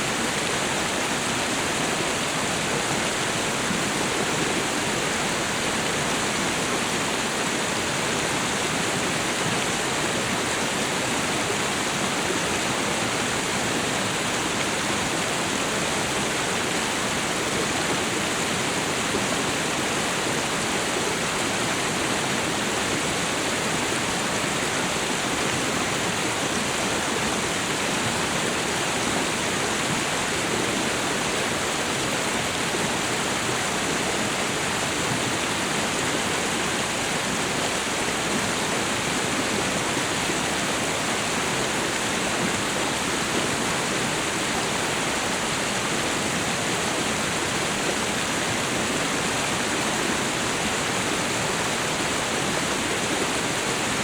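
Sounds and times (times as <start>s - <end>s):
waterfall and river rushing: 0.0s - 54.0s.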